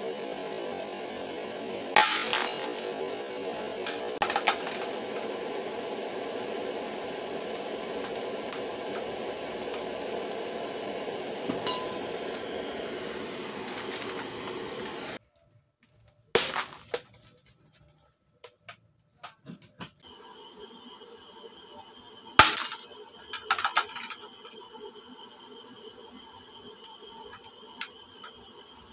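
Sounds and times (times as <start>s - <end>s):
gas torch hissing: 0.0s - 15.2s, 20.0s - 28.9s.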